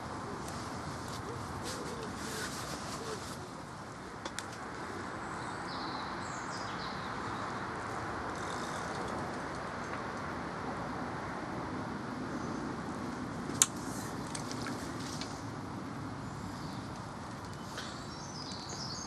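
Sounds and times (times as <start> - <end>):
distant road traffic: 0.0 - 19.0.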